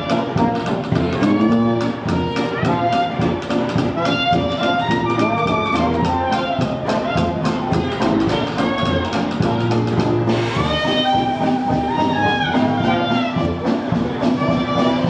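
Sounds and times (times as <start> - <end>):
brass melody: 0.0 - 15.0
drum kit beat: 0.0 - 15.0
tuba bass line: 0.0 - 15.0.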